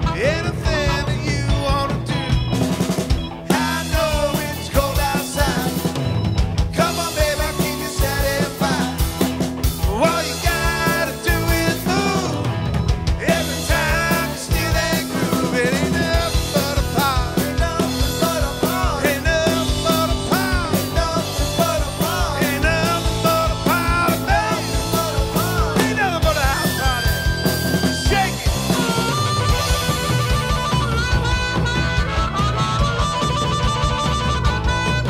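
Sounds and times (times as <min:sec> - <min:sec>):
bass: 0:00.0 - 0:35.0
drum kit beat: 0:00.0 - 0:35.0
electric guitars: 0:00.0 - 0:35.0
harmonica lead lines: 0:00.0 - 0:35.0.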